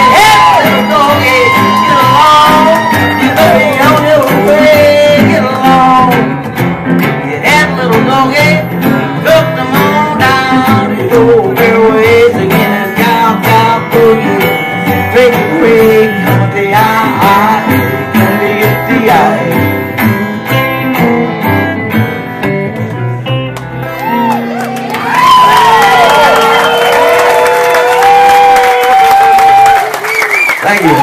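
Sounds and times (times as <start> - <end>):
strummed acoustic guitar: 0.0 - 25.0
sliding steel guitar: 0.0 - 26.1
second guitar: 0.0 - 31.0.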